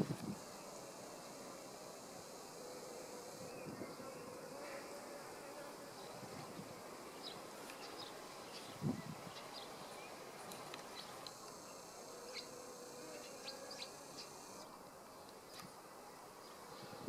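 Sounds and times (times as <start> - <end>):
faint insect buzzing: 0.0 - 17.0.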